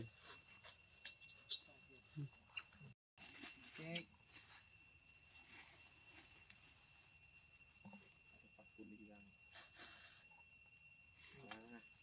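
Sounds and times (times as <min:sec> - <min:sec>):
faint insect drone: 0:00.0 - 0:12.0.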